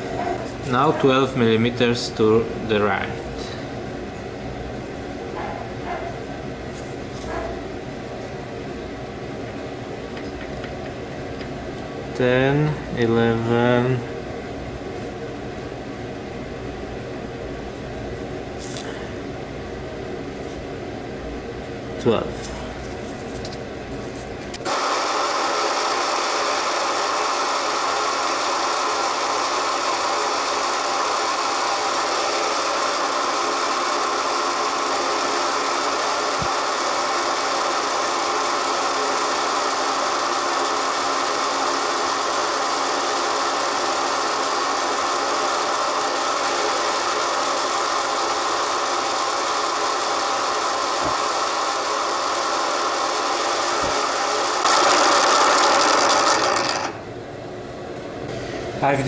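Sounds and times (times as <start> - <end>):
milling machine whine: 0.0 - 22.3, 23.6 - 58.5.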